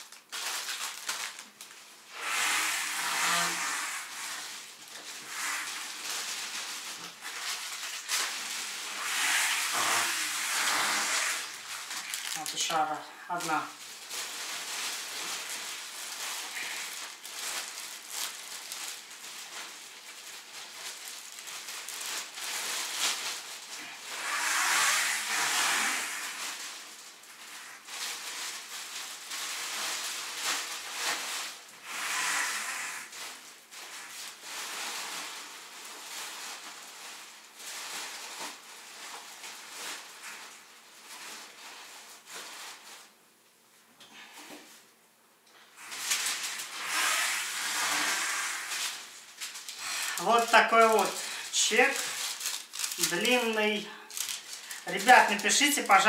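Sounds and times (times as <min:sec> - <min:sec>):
plastic bags rustling and crinkling: 0:00.0 - 0:56.0.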